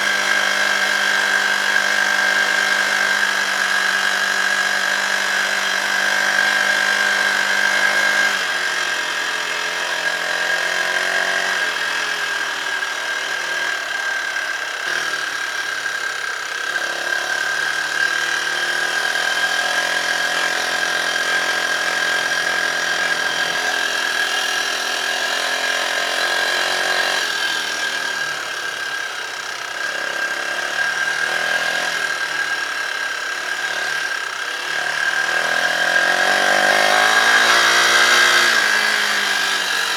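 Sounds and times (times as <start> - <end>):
dirt bike engine running: 0.1 - 39.9.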